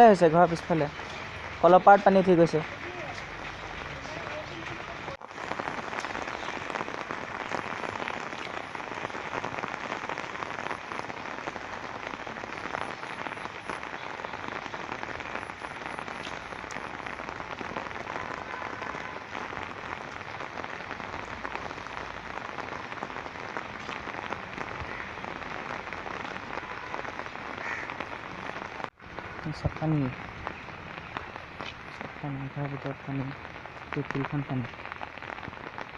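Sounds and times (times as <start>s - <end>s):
steady rain falling: 0.0s - 35.9s
raindrop ticks: 0.1s - 35.9s.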